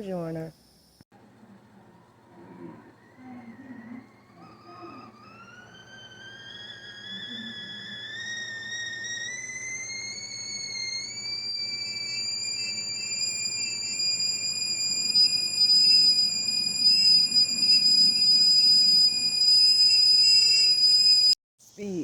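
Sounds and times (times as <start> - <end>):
high electronic whistle tone: 3.0 - 21.4.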